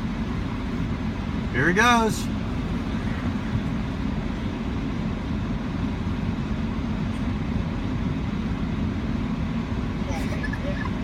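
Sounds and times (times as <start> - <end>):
pickup engine rumbling: 0.0 - 11.0.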